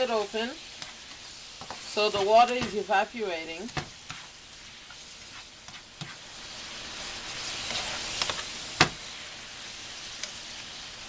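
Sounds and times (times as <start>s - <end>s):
mushrooms sizzling in a pan: 0.0s - 11.0s.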